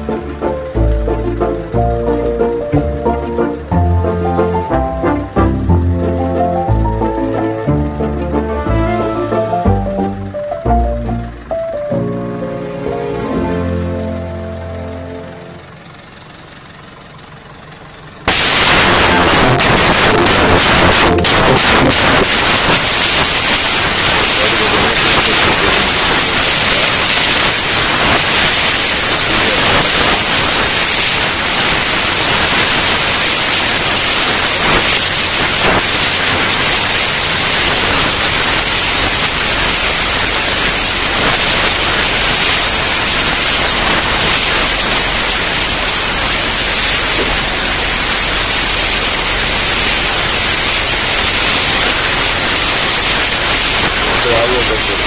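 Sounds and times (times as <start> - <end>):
steady static hiss: 0.0 - 55.0.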